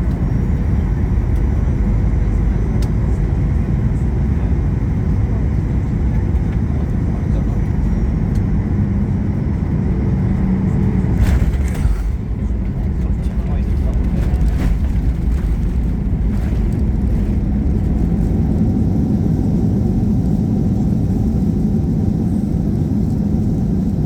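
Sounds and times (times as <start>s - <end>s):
aircraft landing rumble: 0.0s - 24.0s.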